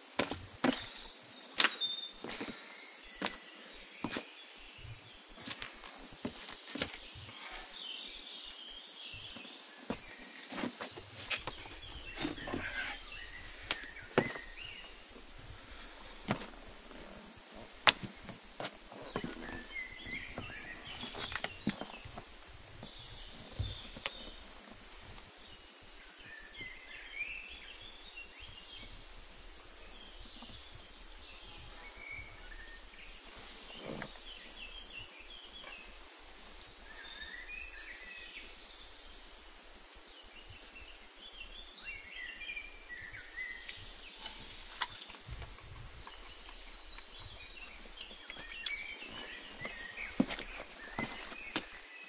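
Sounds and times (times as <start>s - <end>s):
birds chirping and warbling: 0.0s - 52.0s
faint background hiss: 0.0s - 52.0s.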